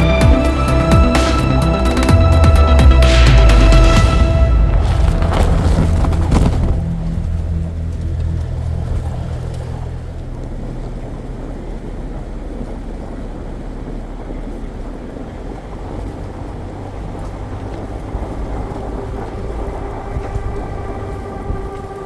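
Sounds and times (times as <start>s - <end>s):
low engine drone: 0.0s - 22.0s
road and wind noise: 0.0s - 22.0s.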